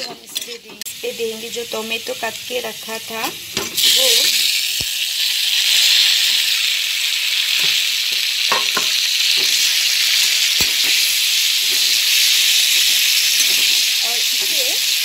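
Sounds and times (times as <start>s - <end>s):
tomatoes sizzling in hot oil: 0.0s - 15.0s.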